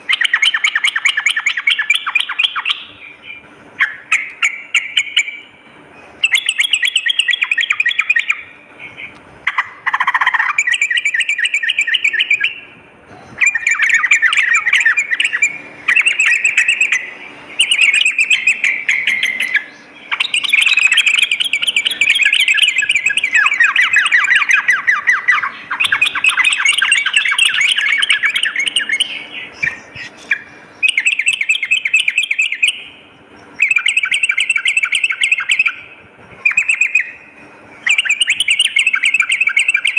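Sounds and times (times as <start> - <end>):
bird singing trilled phrases: 0.0 - 39.9.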